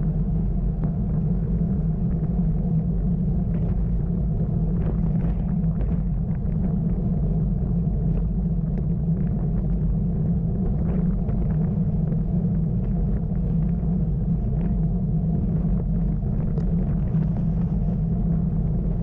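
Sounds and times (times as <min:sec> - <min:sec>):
wind and road noise rumble: 0:00.0 - 0:19.0.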